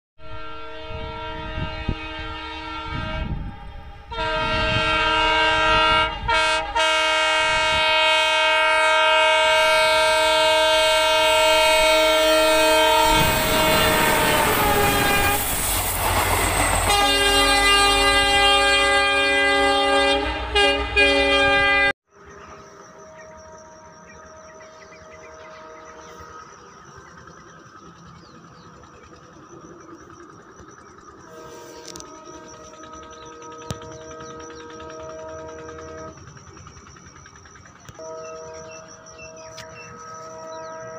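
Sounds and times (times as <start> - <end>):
train horn blasts: 0.2 - 22.0, 22.9 - 26.8, 31.2 - 36.4, 37.9 - 40.9
train wheel and engine rush: 0.2 - 40.9.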